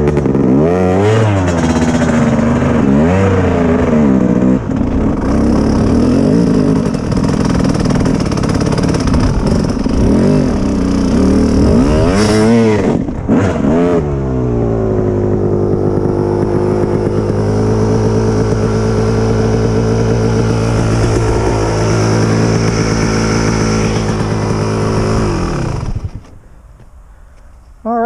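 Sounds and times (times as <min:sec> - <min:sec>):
dirt bike engine revving: 0:00.0 - 0:26.4.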